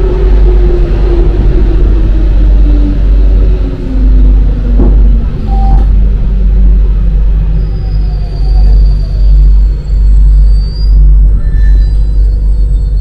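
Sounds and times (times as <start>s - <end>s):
metro train rumble: 0.0s - 13.0s
train motor whine: 0.0s - 13.0s.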